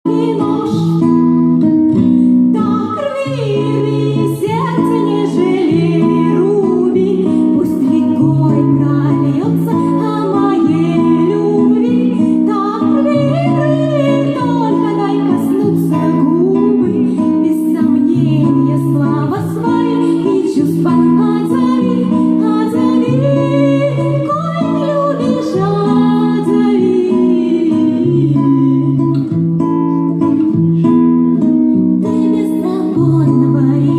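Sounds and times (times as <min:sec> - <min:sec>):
guitar: 0:00.0 - 0:33.9
person singing: 0:02.6 - 0:29.3, 0:32.0 - 0:33.9.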